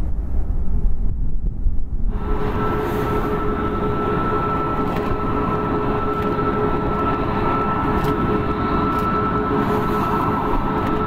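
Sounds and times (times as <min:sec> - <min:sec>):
jet engines at taxi power: 0:00.0 - 0:11.0.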